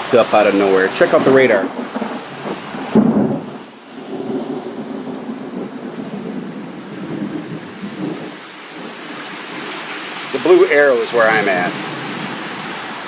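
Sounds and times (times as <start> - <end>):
thunder rumbling: 0.0 - 12.6
rain falling: 0.0 - 13.0.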